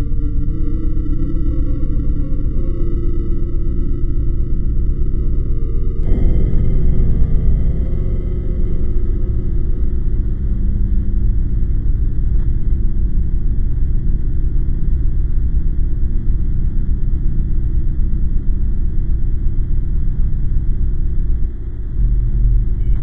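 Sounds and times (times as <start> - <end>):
loud low rumble: 0.0 - 23.0.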